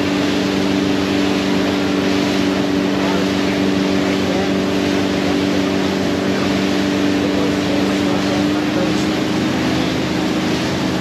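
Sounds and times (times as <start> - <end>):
boat engine running: 0.0 - 11.0
wind and water rushing: 0.0 - 11.0.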